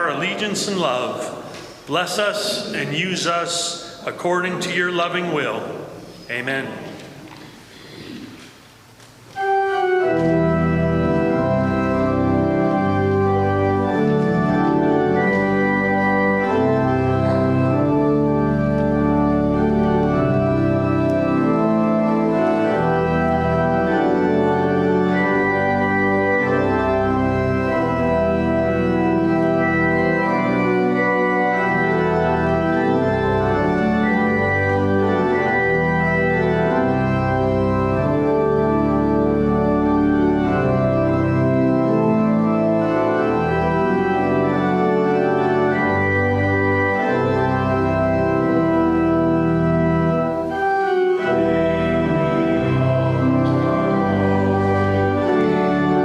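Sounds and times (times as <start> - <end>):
church organ chords: 0.0 - 7.2, 7.8 - 56.0.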